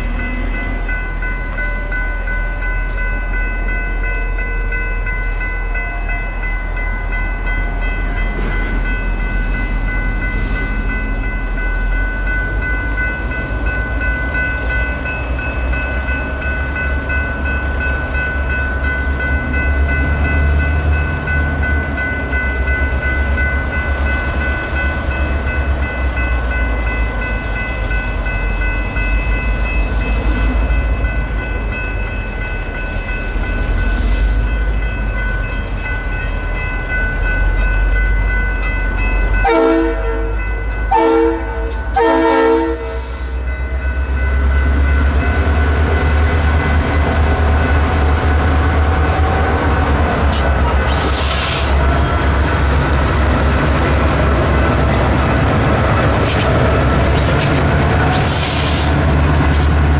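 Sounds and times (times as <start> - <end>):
electronic crossing bells ringing: 0.0 - 50.2.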